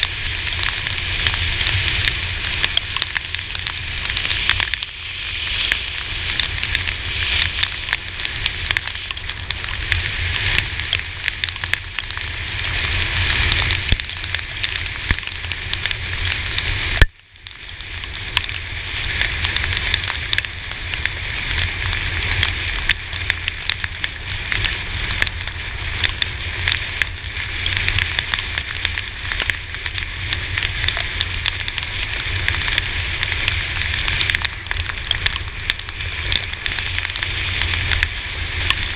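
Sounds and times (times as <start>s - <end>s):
rain striking camera housing: 0.0s - 38.9s
scooter rumbling on wet road: 0.0s - 38.9s.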